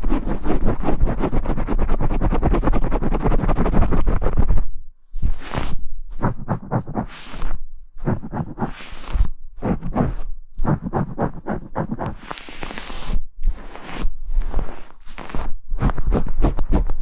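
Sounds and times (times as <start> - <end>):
brush scratching microphone: 0.0 - 17.0.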